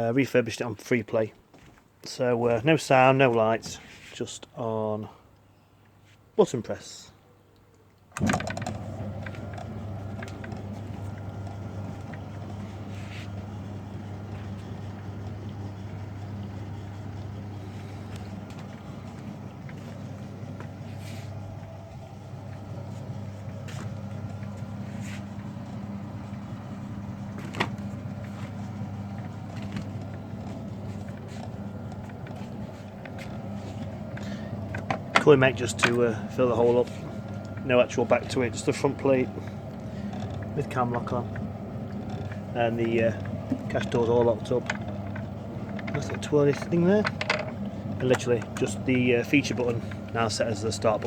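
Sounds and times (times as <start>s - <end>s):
electric motor humming: 8.2s - 51.0s.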